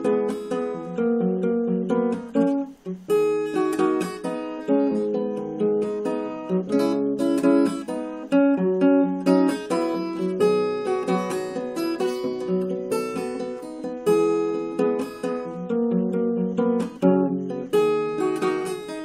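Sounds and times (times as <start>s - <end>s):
fingerstyle acoustic guitar: 0.0s - 19.0s.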